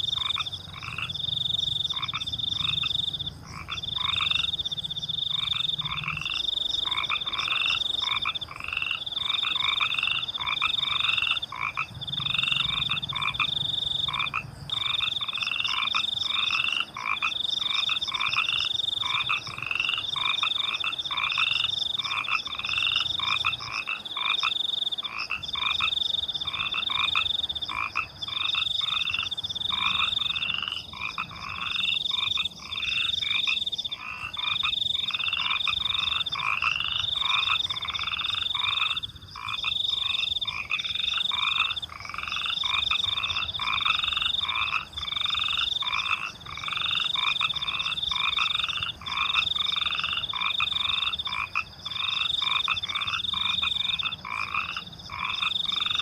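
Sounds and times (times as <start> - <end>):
crickets trilling: 0.0 - 56.0
frogs croaking: 0.0 - 56.0.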